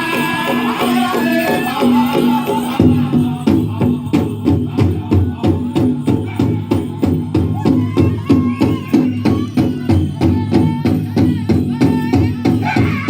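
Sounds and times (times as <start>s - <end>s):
high-pitched singers: 0.0s - 13.0s
large drum beating fast: 0.0s - 13.0s.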